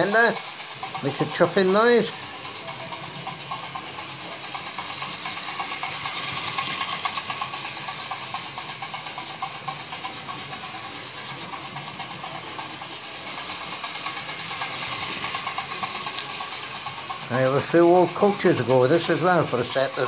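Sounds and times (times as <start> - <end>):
model train chopping noise: 0.0 - 20.0
model train motor: 0.0 - 20.0
wheels on rails: 0.0 - 20.0.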